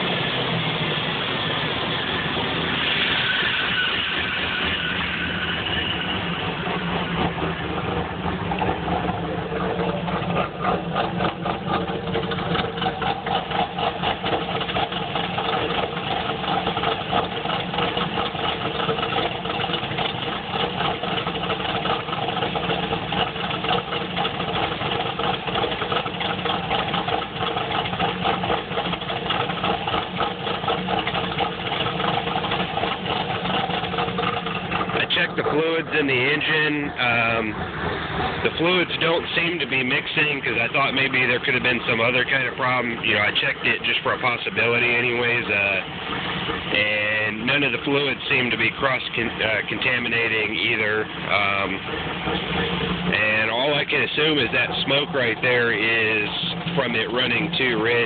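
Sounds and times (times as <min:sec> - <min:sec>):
car engine idling rough: 0:00.0 - 0:58.0.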